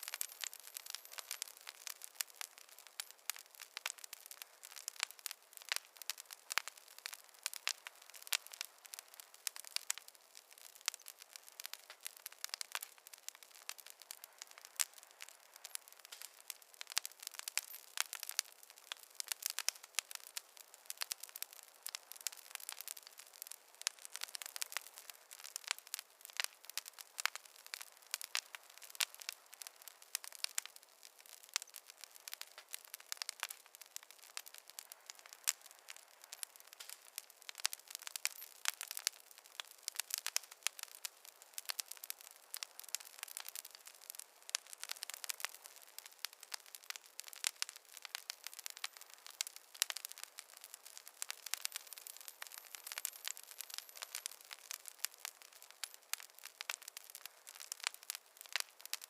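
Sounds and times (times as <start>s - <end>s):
fire crackling pops: 0.0s - 59.0s.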